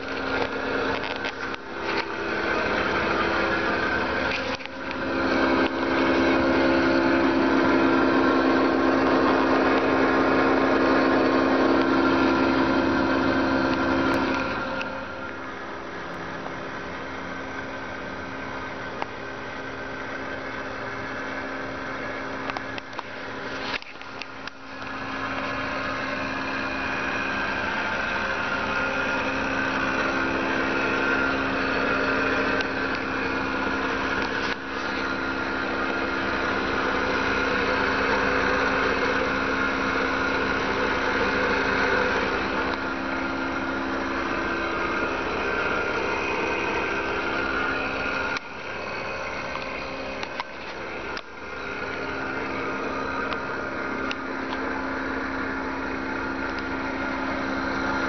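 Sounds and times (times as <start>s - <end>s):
van engine idling: 0.0s - 58.0s.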